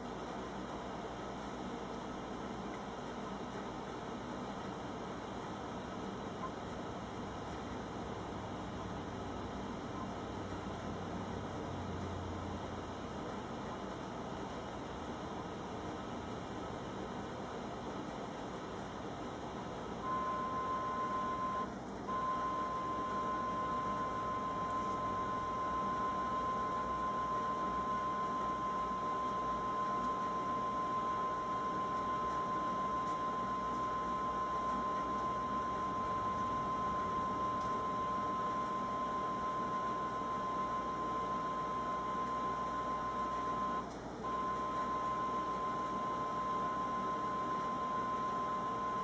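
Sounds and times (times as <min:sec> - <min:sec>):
television steady tone: 0:00.0 - 0:49.0.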